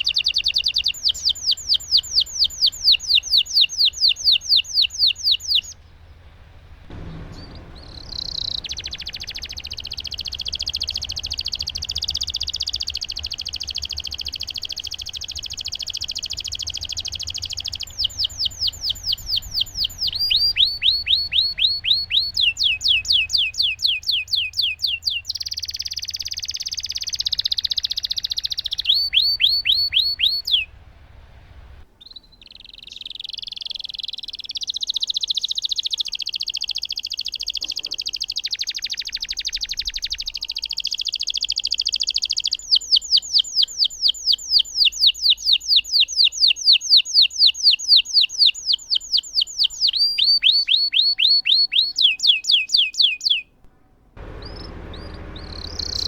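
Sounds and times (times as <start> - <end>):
canary singing trills: 0.0 - 31.2, 32.0 - 53.6, 54.2 - 56.0.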